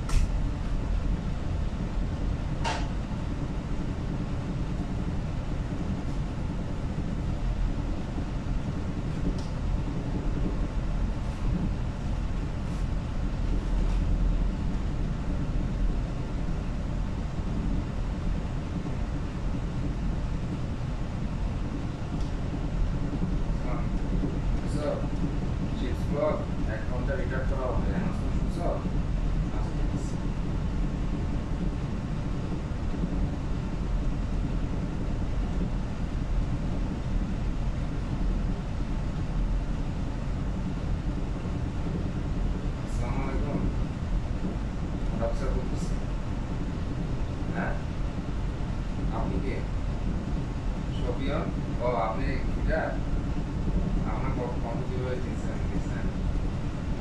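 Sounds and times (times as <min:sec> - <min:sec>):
wind and rough sea rumble: 0:00.0 - 0:57.0.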